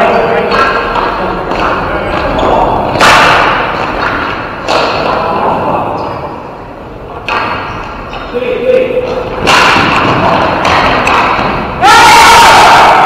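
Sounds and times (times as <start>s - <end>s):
loud sharp knocks echoing in hall: 0.0s - 13.0s.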